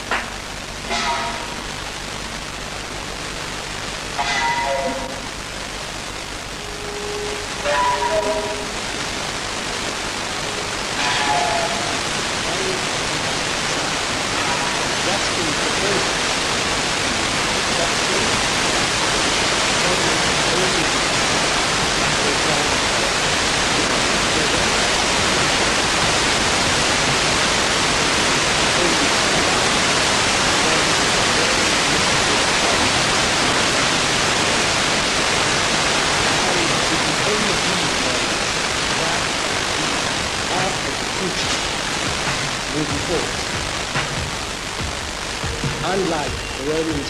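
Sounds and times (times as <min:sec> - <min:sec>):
steady loud rushing noise: 0:00.0 - 0:47.0.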